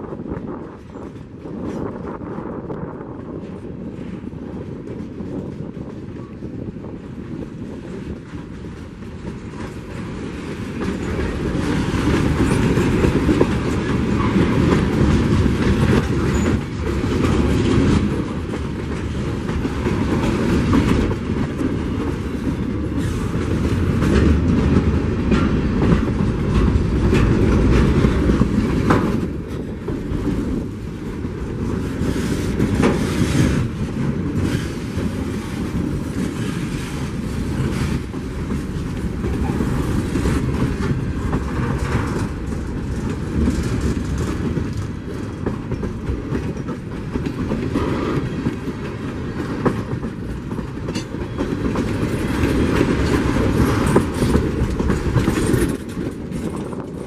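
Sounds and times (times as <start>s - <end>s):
train wheels rumbling on rail: 0.0s - 57.0s
wheels clicking over rail joints: 0.1s - 57.0s.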